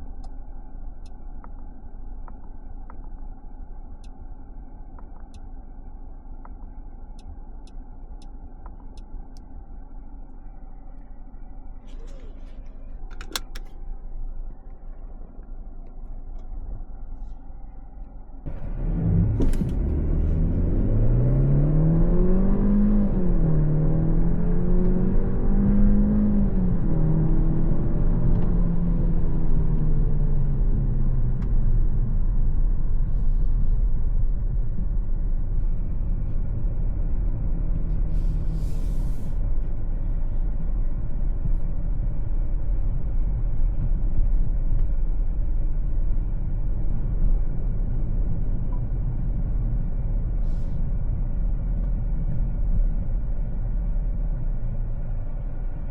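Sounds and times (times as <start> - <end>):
road and tyre hum: 0.0 - 55.9
car engine accelerating: 6.3 - 55.9.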